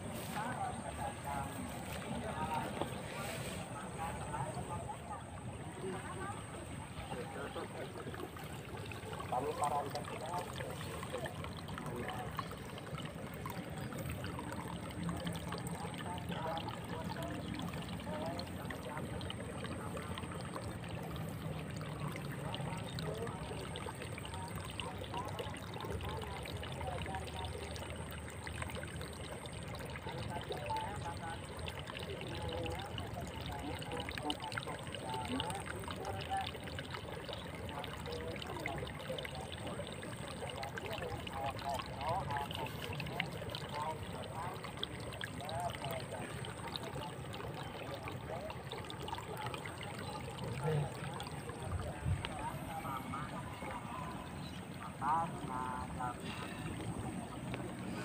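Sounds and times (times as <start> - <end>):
shallow water trickling: 0.0 - 58.0.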